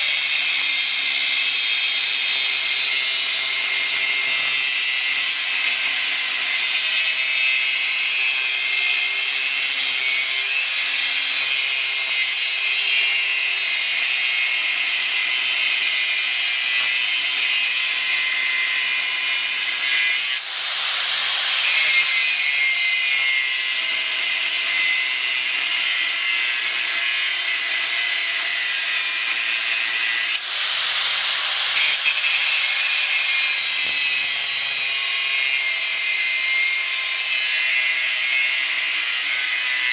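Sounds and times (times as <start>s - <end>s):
power tool grinding steel: 0.0s - 39.9s.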